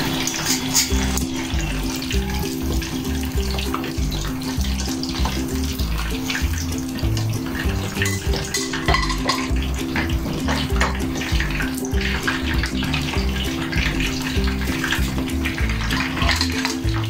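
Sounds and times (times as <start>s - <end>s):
background music: 0.0s - 17.0s
meat deep-frying in oil: 0.0s - 17.0s.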